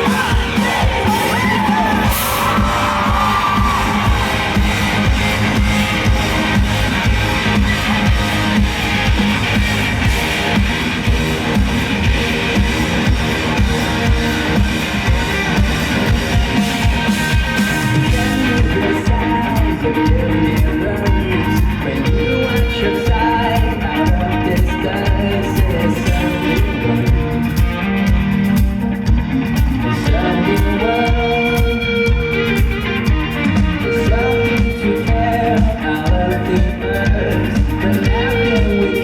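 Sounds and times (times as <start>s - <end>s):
rock band playing live: 0.0s - 39.0s.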